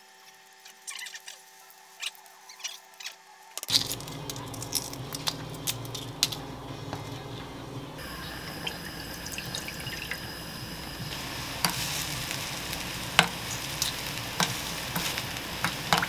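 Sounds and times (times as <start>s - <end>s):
eggshell crackling: 0.6s - 16.0s.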